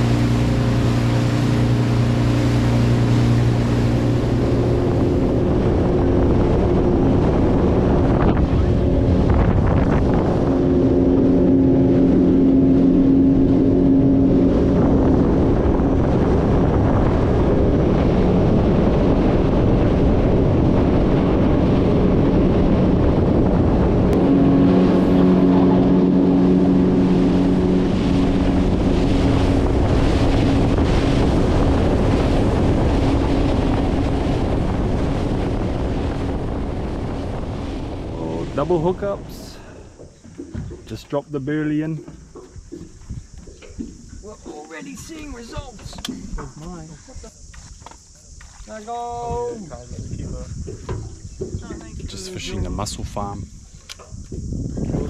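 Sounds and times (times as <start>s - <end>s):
outboard motor droning: 0.0s - 55.0s
rush of wind and water: 0.0s - 55.0s.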